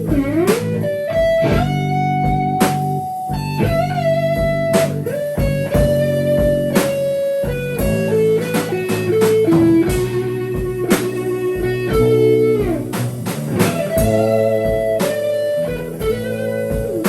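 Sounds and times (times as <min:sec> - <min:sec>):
electric guitar bending notes: 0:00.0 - 0:17.0
held bass notes: 0:00.0 - 0:17.0.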